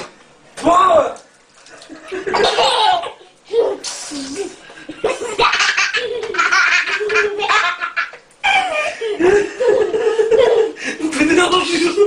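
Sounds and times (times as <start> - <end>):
young children laughing: 1.8 - 12.0.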